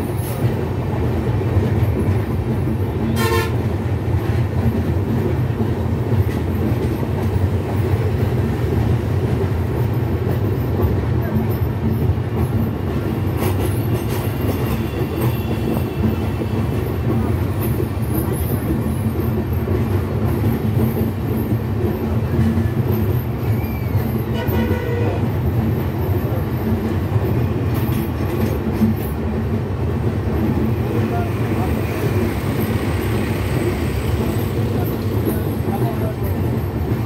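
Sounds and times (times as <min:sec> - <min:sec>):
train coaches rumbling on rails: 0:00.0 - 0:37.0.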